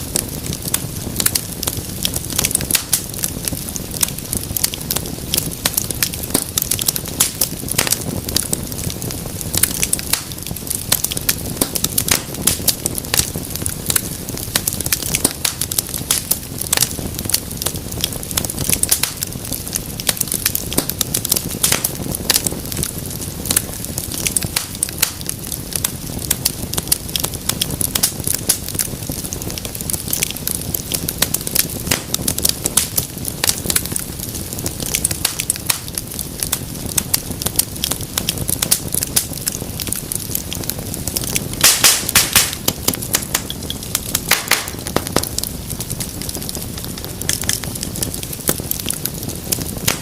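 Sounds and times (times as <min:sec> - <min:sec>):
rush of flame: 0:00.0 - 0:50.0
wood fire crackling: 0:00.0 - 0:50.0
sharp pops and snaps: 0:00.1 - 0:50.0.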